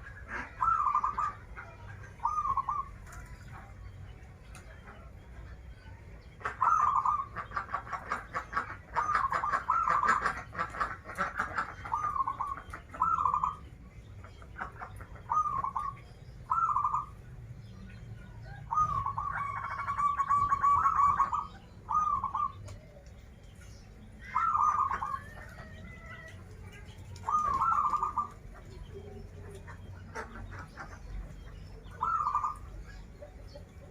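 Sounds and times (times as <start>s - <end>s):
dove cooing: 0.0s - 3.8s, 6.5s - 13.7s, 14.6s - 17.2s, 18.4s - 23.0s, 24.2s - 26.4s, 27.0s - 33.9s.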